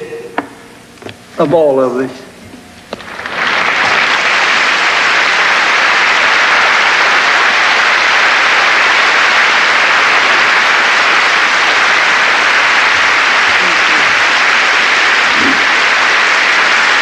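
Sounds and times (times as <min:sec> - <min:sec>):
audience applauding: 0:02.9 - 0:17.0.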